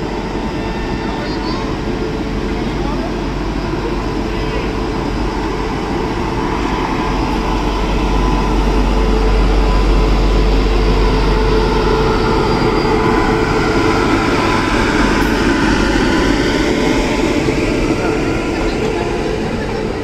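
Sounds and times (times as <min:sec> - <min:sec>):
electric locomotive humming: 0:00.0 - 0:20.0.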